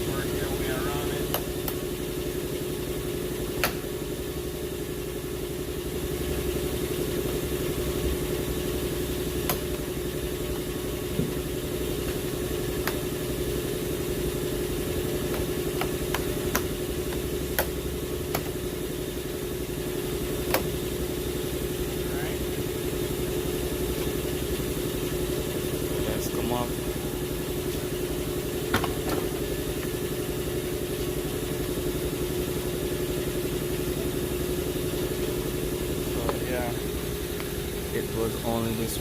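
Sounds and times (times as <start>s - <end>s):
steady engine hum: 0.0s - 39.0s.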